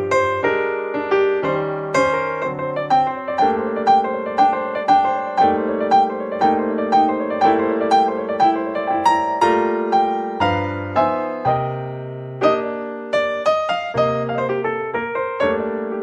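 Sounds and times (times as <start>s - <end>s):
lively piano music: 0.0s - 16.0s.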